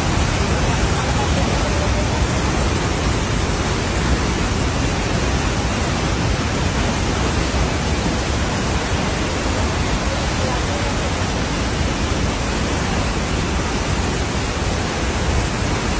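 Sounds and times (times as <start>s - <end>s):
floodwater rushing down a slope: 0.0s - 15.9s.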